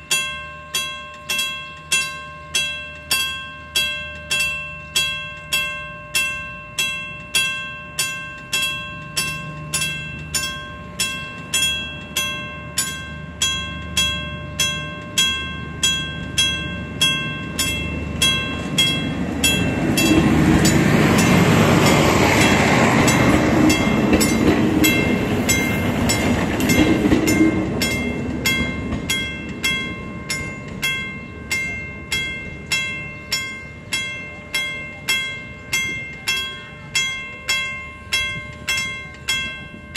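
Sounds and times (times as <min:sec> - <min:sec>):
diesel railcar passing: 0:00.0 - 0:39.9
level crossing warning bell: 0:00.0 - 0:39.9.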